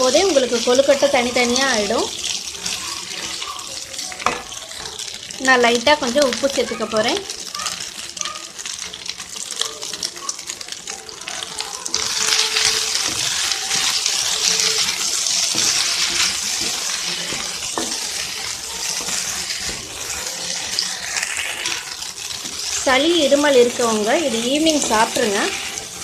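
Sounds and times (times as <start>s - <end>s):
food frying and crackling: 0.0s - 26.0s.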